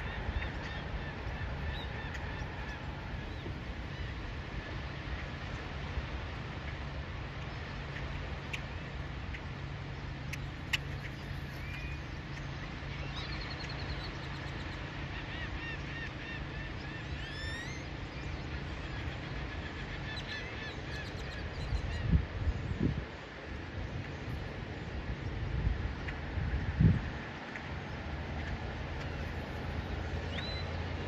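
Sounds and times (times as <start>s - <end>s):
birds calling: 0.0s - 5.8s, 7.4s - 22.9s, 26.0s - 31.0s.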